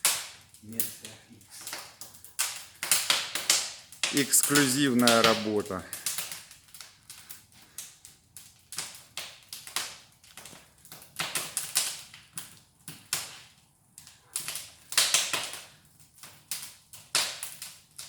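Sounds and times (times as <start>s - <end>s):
logs crackling in a fireplace: 0.0s - 18.0s.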